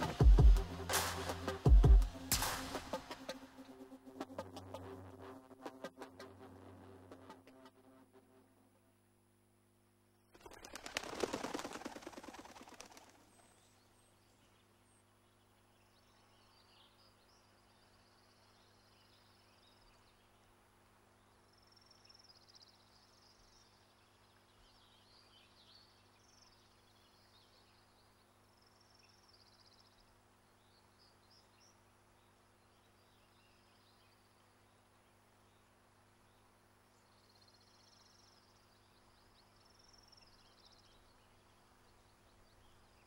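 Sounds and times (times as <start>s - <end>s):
faint birdsong chirps: 7.6s - 43.0s.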